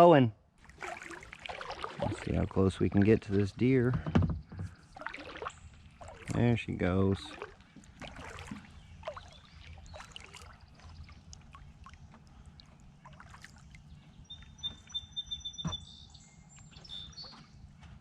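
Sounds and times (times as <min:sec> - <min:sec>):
water drips and small splashes: 0:00.6 - 0:15.4.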